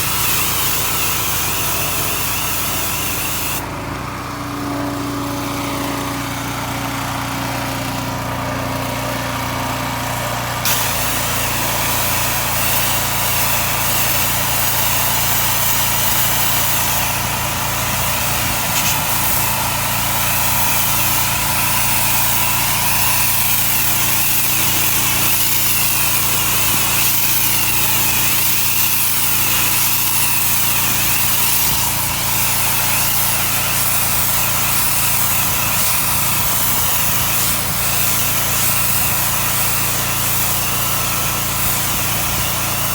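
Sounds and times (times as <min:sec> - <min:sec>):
high-pressure water spray hissing: 0:00.0 - 0:03.6, 0:10.6 - 0:42.9
pressure washer engine running: 0:00.0 - 0:42.9.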